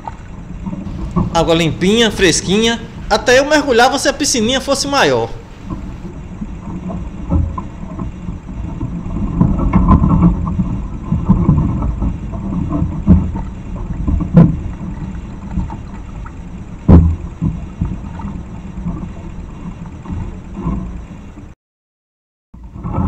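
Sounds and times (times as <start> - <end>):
steady low rumble: 0.0 - 21.6.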